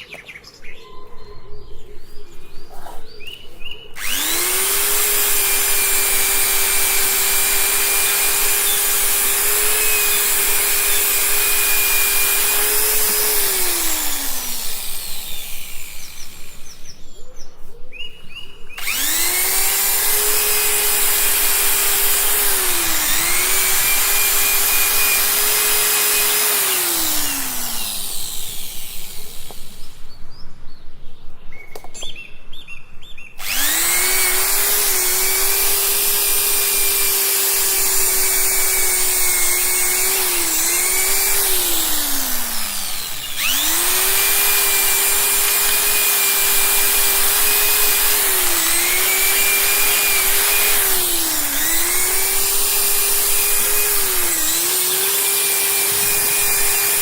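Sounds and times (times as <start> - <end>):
power tool motor whining: 3.9 - 17.0, 18.7 - 30.1, 33.4 - 57.0.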